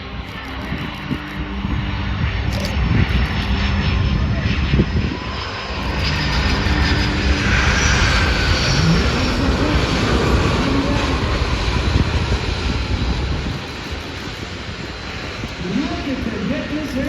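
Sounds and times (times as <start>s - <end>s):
airplane engines roaring: 0.0s - 17.0s.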